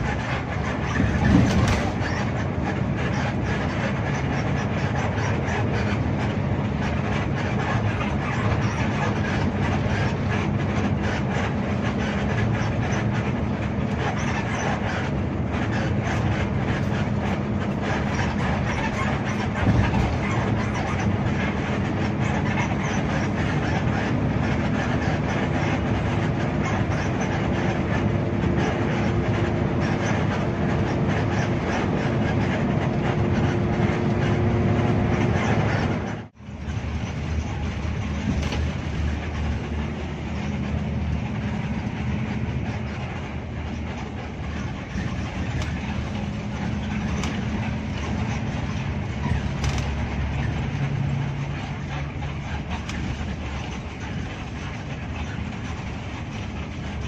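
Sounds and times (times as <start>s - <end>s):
diesel engine drone: 0.0s - 57.0s
rattling and ticking: 0.0s - 57.0s
tyre and road rumble: 0.0s - 57.0s.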